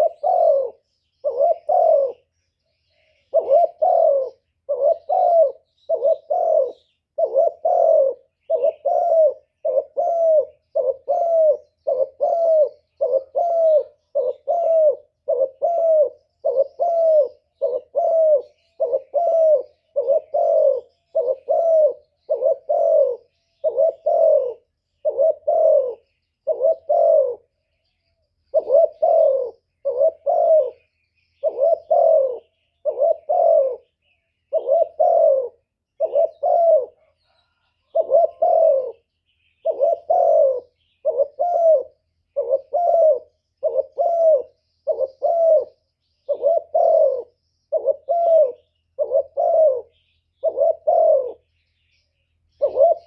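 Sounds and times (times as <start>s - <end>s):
dove cooing: 0.0s - 53.0s
faint high bird chirps: 0.0s - 53.0s.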